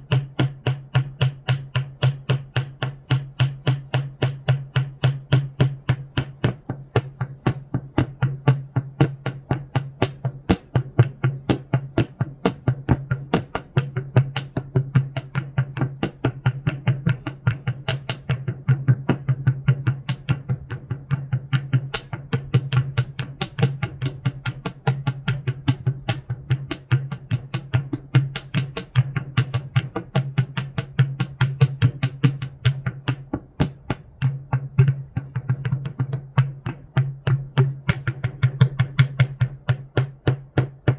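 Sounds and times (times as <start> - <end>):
rapid uneven knocking: 0.0 - 40.9.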